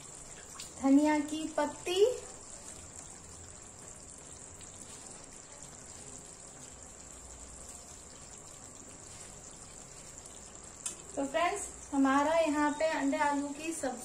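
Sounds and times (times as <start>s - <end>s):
curry simmering faintly: 0.0s - 14.0s.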